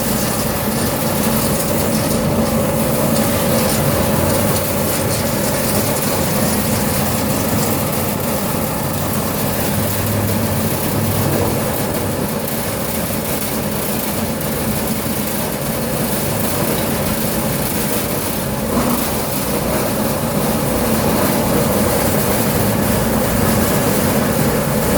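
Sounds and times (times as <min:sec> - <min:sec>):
machine humming steadily: 0:00.0 - 0:24.9.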